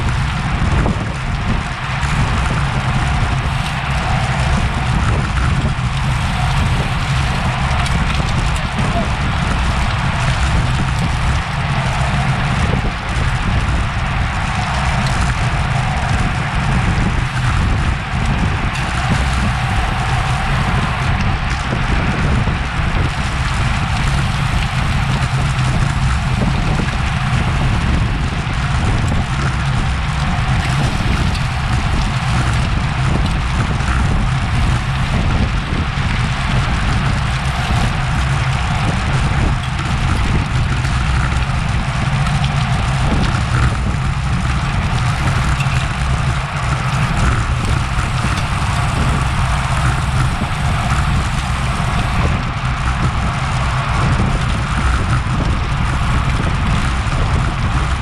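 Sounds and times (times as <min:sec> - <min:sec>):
road and tyre noise: 0:00.0 - 0:58.0
wind rushing over microphone: 0:00.0 - 0:58.0.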